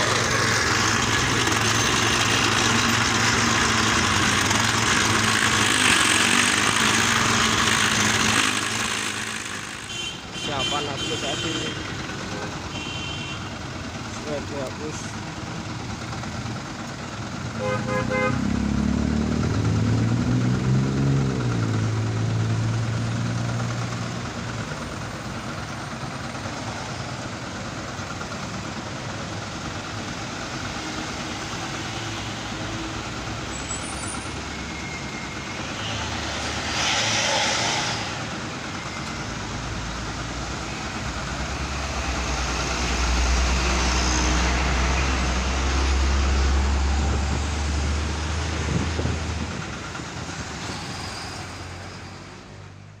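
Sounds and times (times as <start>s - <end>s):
heavy road traffic: 0.0s - 53.0s.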